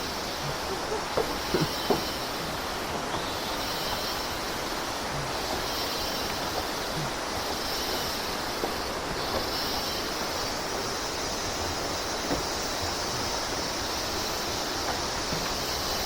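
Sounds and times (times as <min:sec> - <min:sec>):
rush of falling water: 0:00.0 - 0:16.0.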